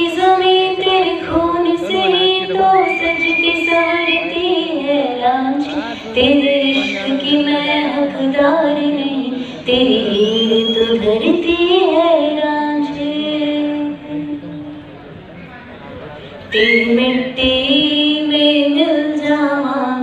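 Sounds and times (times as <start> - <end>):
woman singing into microphone: 0.0 - 14.8, 16.6 - 20.0.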